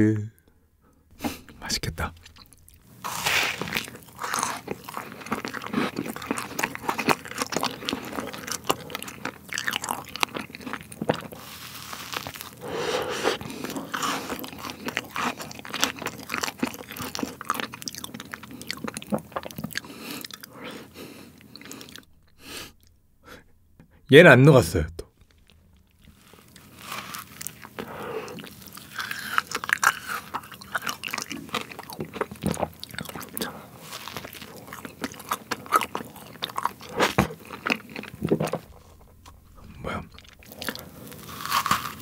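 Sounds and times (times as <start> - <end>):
biting and chewing sandwich: 2.2 - 23.0, 25.2 - 42.0.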